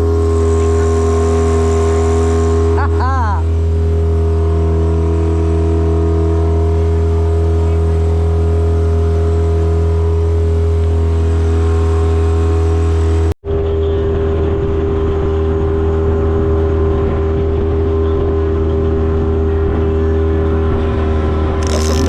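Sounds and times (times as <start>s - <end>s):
outboard motor droning: 0.0s - 22.0s.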